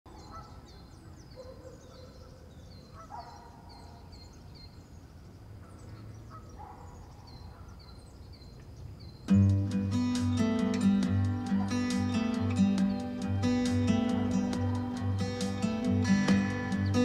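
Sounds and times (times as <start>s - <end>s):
bird high chirps: 0.1s - 17.0s.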